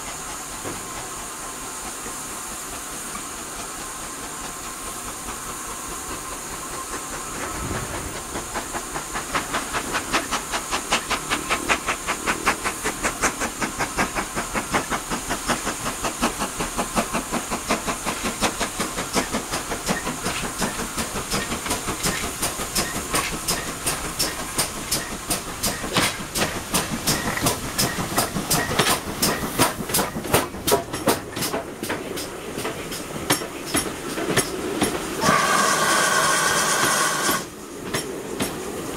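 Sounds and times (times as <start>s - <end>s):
locomotive exhaust beat: 0.0s - 38.7s
steam locomotive hiss: 0.0s - 38.9s.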